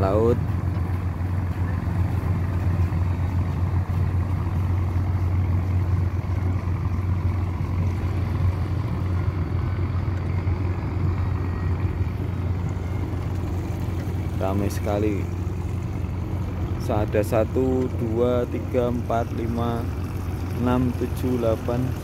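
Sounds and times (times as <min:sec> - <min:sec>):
small boat engine droning: 0:00.0 - 0:22.0.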